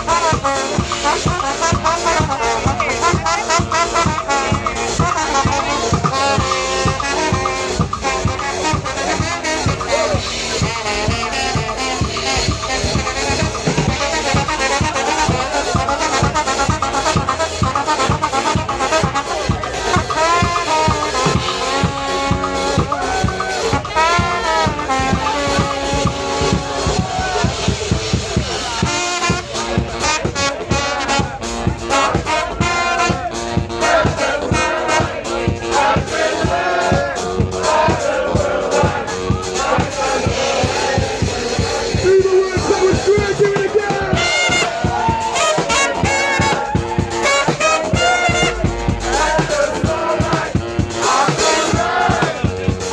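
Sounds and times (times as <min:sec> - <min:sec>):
brass band playing upbeat tune: 0:00.0 - 0:52.9
fast drum beat: 0:00.0 - 0:52.9.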